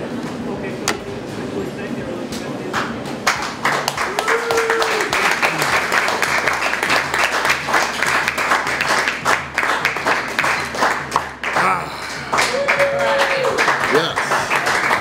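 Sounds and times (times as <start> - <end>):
people clapping: 2.6 - 15.0.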